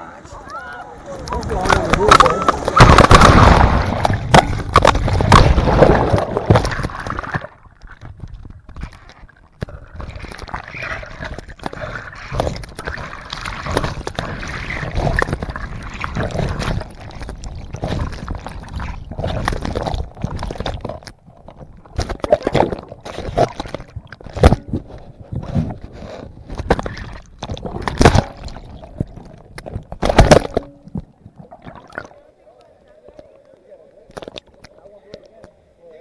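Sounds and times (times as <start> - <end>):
churning water underwater: 0.0 - 34.8
knocks and sloshes against camera: 1.2 - 32.2.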